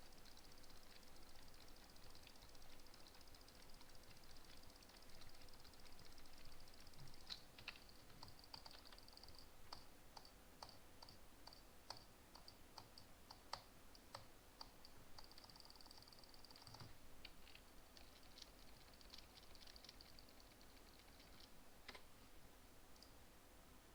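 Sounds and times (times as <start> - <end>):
rapid even ticks: 0.0 - 22.0.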